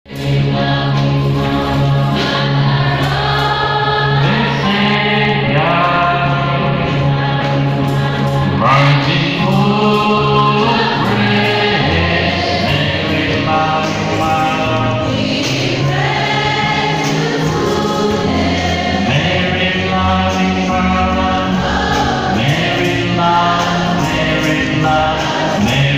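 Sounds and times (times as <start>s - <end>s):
choir singing a hymn: 0.1s - 25.9s.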